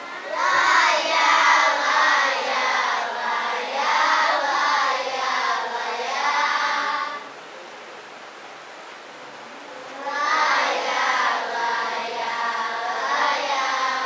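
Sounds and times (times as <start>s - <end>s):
children singing together: 0.0s - 7.3s, 9.8s - 14.0s.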